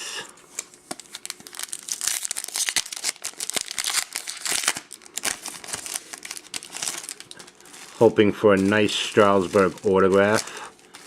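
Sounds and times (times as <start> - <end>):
foil wrapper crinkling: 0.5 - 11.0.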